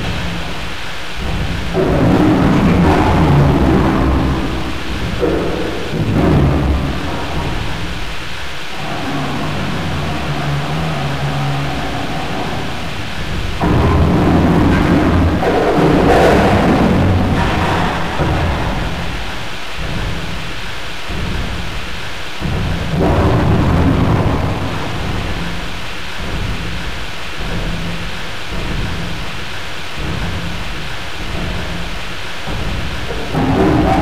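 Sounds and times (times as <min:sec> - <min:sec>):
low rumbling thunder: 0:00.0 - 0:34.0
steady rain hiss: 0:00.0 - 0:34.0.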